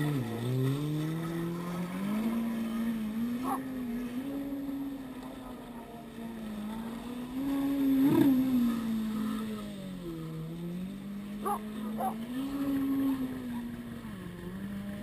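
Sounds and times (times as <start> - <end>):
jet ski engines running: 0.0 - 15.0.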